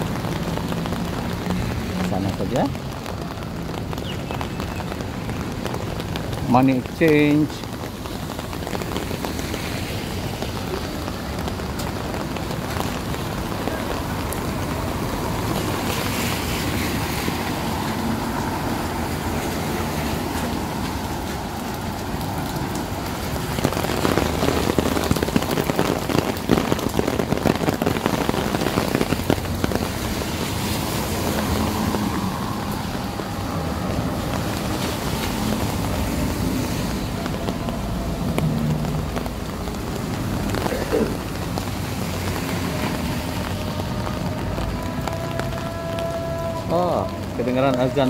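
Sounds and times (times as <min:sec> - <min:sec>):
rain falling on street: 0:00.0 - 0:48.0
traffic on wet road: 0:00.0 - 0:48.0.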